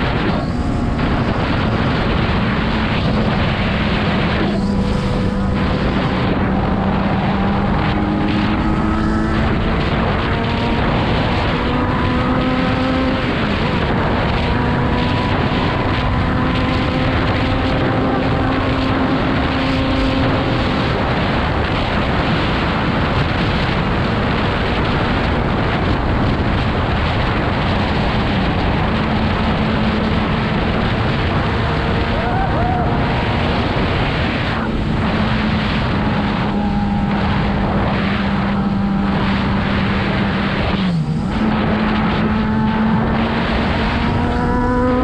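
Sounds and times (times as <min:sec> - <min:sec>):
motorcycle engine cruising: 0:00.0 - 0:45.0
wind noise on microphone: 0:00.0 - 0:45.0.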